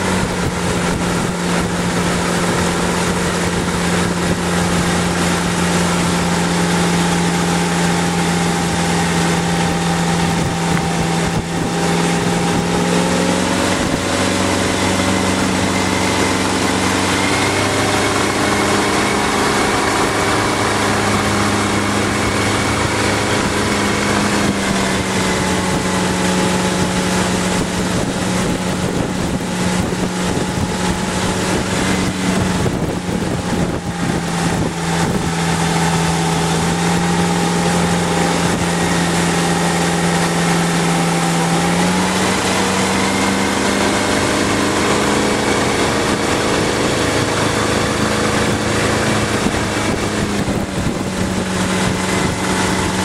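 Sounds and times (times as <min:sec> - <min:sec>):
boat wake: 0:00.0 - 0:53.0
motorboat engine running: 0:00.0 - 0:53.0
wind rushing: 0:00.0 - 0:53.0.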